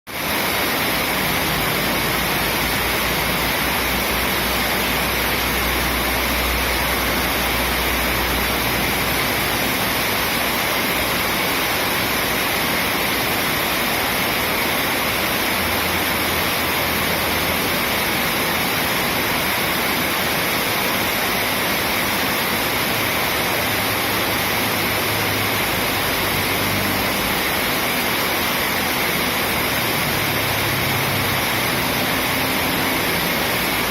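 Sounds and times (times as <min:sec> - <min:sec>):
running water rushing: 0:00.1 - 0:33.9.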